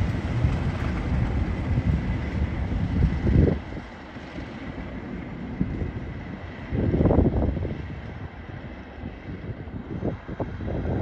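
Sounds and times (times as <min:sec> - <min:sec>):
diesel locomotive engine rumbling: 0:00.0 - 0:11.0
wind buffeting microphone: 0:00.0 - 0:11.0.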